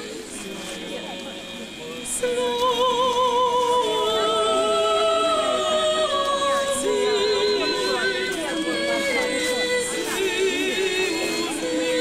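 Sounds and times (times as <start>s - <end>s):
choir singing unaccompanied chant: 0.0s - 12.0s.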